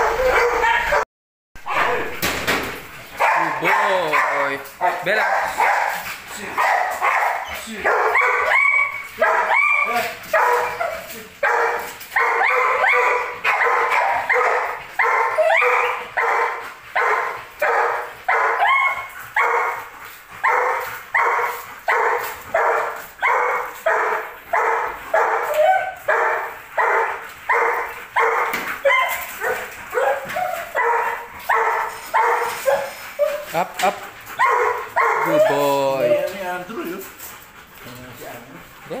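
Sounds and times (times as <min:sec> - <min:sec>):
dog barking: 0:00.0 - 0:01.1, 0:03.2 - 0:36.4.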